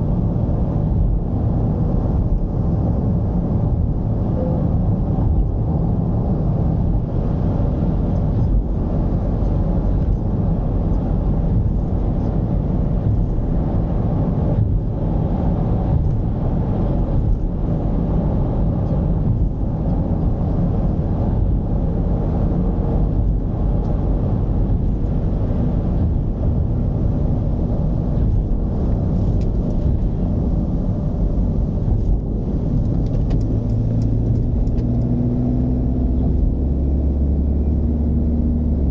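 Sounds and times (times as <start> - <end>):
diesel engine rumble while driving: 0.0 - 38.9
road noise: 0.0 - 38.9.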